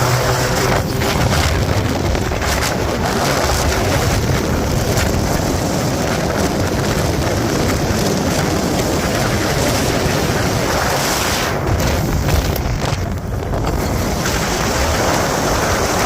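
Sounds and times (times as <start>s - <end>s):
motorcycle engine humming: 0.0s - 16.0s
wind rushing over microphone: 0.0s - 16.0s.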